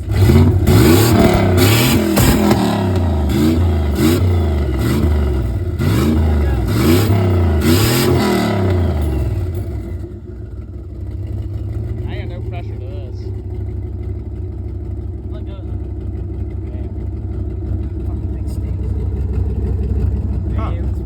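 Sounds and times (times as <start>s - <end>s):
pickup engine revving: 0.0s - 21.0s.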